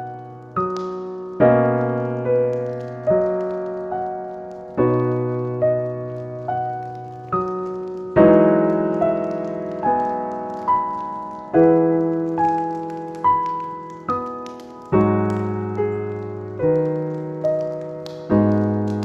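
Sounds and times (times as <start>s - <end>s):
slow solo piano: 0.0s - 19.0s.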